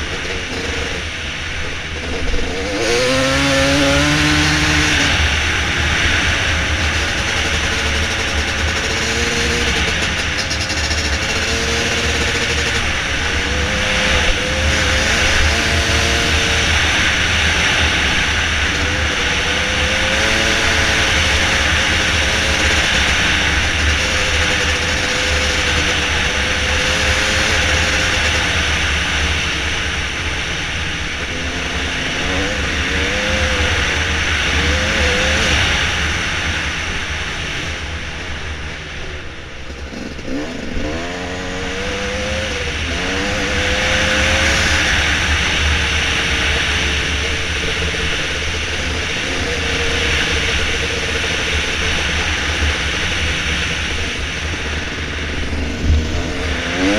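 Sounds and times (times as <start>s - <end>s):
dirt bike engine revving: 0.0s - 36.8s, 39.7s - 56.9s.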